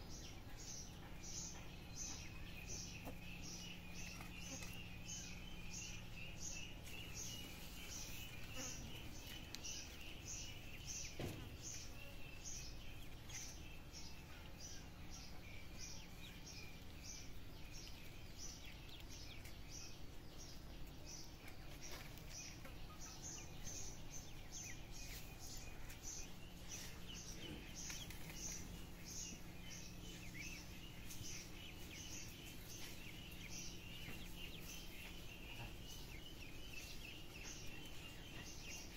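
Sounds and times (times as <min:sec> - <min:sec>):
faint continuous chirping: 0:00.0 - 0:38.9.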